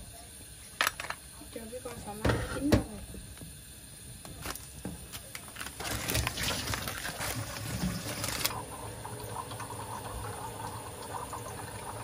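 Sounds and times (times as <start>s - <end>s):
water boiling in a pan: 0.0s - 12.0s.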